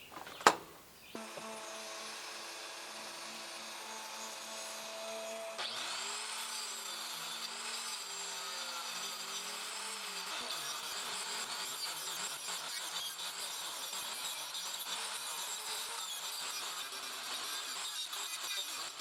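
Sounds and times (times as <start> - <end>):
power tool running on wood: 1.2 - 19.0.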